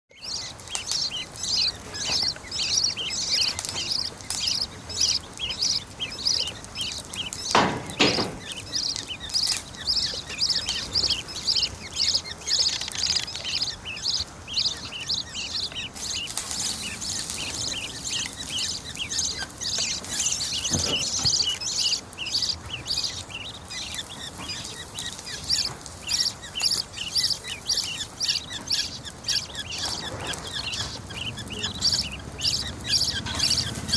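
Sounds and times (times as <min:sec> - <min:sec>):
parrot chicks chirping: 0:00.1 - 0:33.9.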